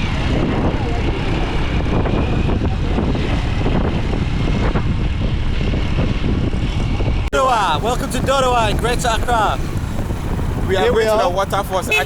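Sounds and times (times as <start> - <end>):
motorcycle engine drone: 0.0 - 12.0
rushing wind noise: 0.0 - 12.0.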